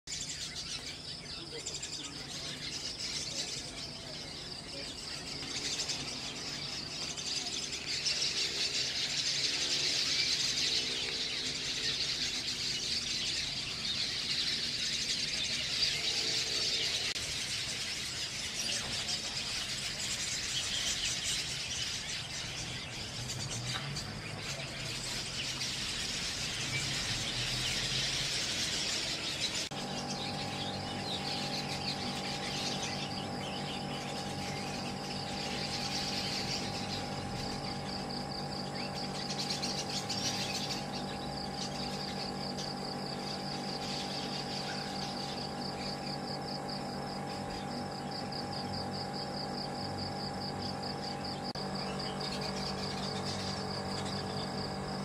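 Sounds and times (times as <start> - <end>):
flock of birds chattering: 0.0 - 55.0.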